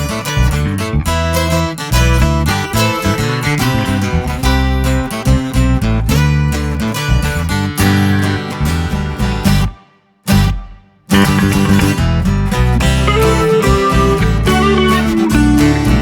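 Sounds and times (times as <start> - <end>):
strummed guitar music: 0.0 - 16.0.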